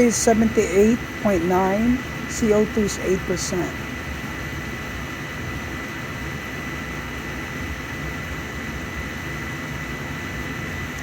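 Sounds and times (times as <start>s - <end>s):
boiler burner running: 0.0s - 11.0s.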